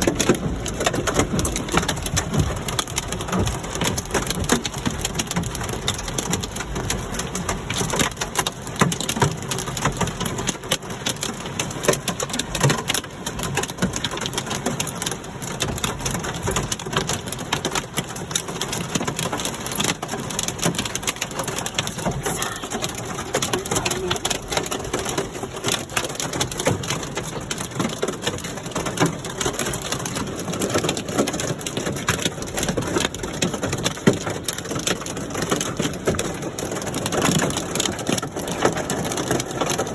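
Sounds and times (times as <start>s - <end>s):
rain hiss: 0.0s - 39.8s
hailstones clattering: 0.0s - 39.9s.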